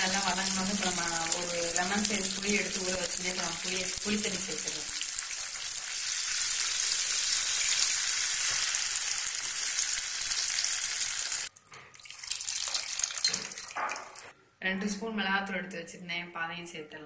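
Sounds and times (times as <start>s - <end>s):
liquid sizzling in hot oil: 0.0s - 14.3s.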